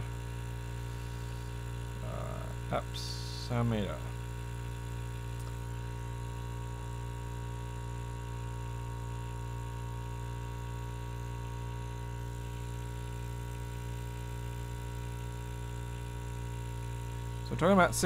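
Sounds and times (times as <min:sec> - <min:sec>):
air compressor humming: 0:00.0 - 0:18.0.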